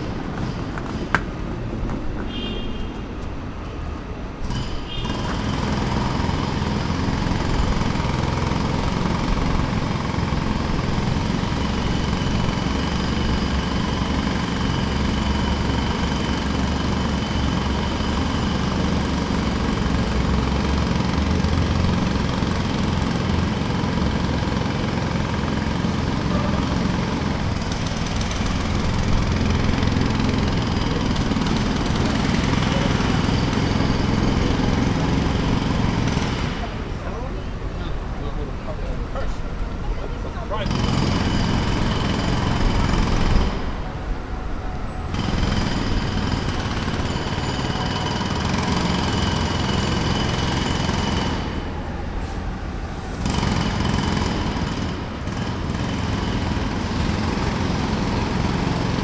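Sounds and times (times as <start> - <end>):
jackhammer hammering: 4.3 - 38.0, 40.5 - 44.2, 44.9 - 52.2, 52.9 - 59.0.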